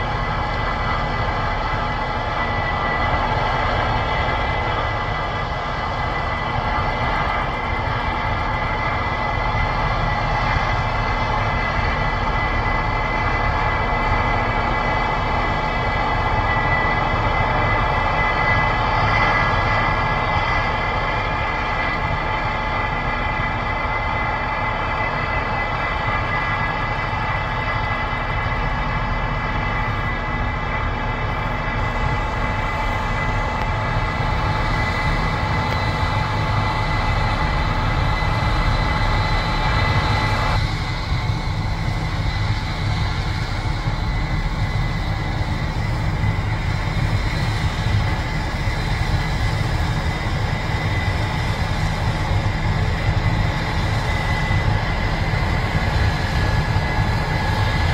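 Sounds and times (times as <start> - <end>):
combine harvester engine rumble: 0.0 - 57.9
high steady whine: 0.0 - 57.9.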